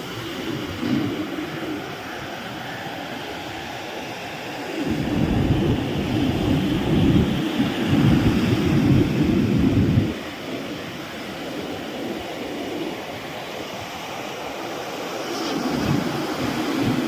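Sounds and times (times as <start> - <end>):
sea surf washing on beach: 0.0 - 17.0
wind buffeting microphone: 0.0 - 17.0.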